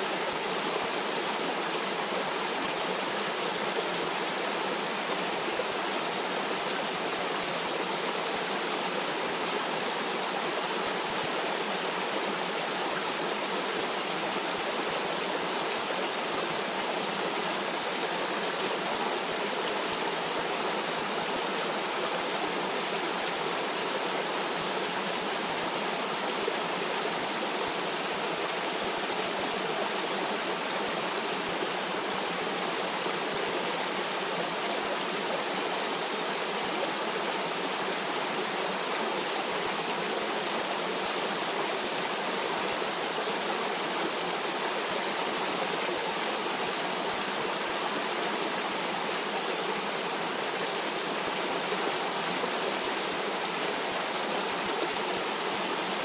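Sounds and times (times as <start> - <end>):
stream water flowing and splashing: 0.0 - 56.0.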